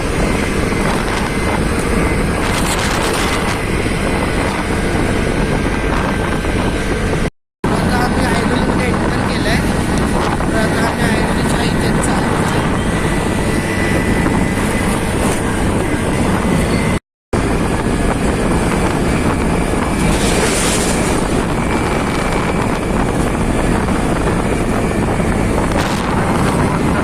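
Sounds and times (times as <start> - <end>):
motorcycle engine and road noise: 0.0 - 27.0
wind buffeting microphone: 0.0 - 27.0.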